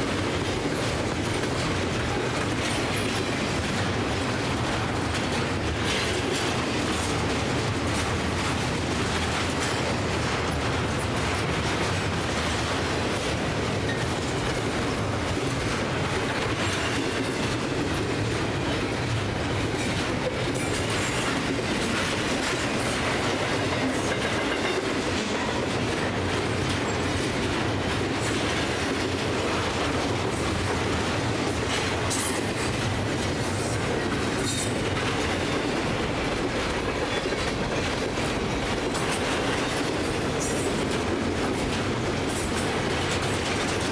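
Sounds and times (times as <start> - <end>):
clickety-clack over rail joints: 0.0 - 43.9
steel wheels rumbling on rail: 0.0 - 43.9.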